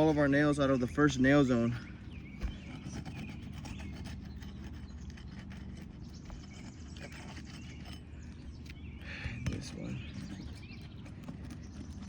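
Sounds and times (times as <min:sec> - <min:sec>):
tool scraping under shingles: 0:00.0 - 0:12.0.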